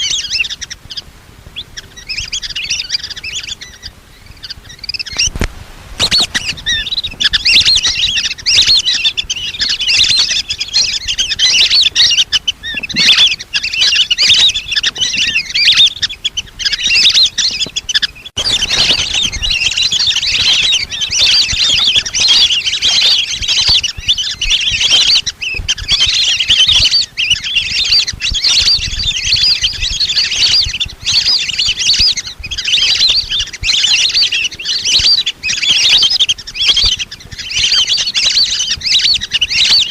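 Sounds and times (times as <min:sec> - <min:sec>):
ducks whistling and chirping: 0:00.0 - 0:39.9.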